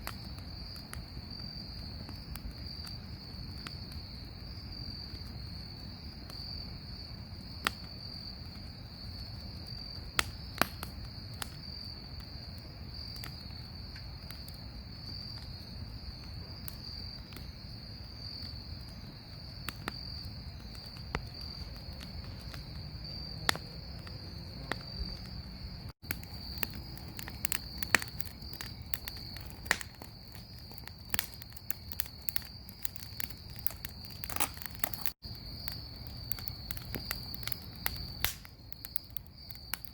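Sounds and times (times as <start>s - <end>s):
bonfire crackling and popping: 0.0s - 39.9s
crickets trilling: 0.0s - 39.9s.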